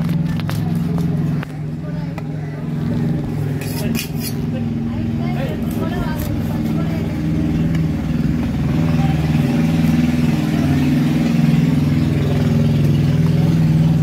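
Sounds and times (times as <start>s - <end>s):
engine running low hum: 0.0s - 14.0s.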